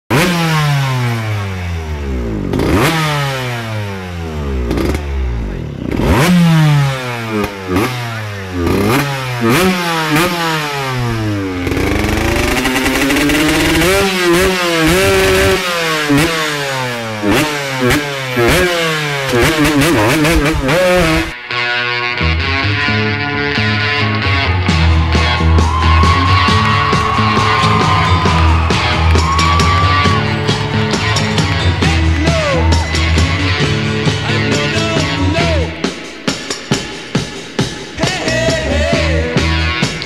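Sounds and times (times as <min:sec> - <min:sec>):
motorcycle engines revving: 0:00.1 - 0:21.4, 0:23.4 - 0:40.0.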